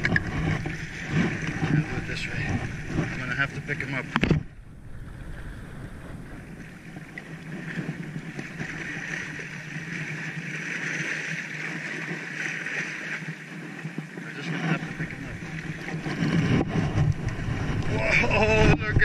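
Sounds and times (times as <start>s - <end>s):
wind on microphone: 0.0s - 10.6s, 14.0s - 19.0s
sea water splashing on rocks: 0.0s - 19.0s.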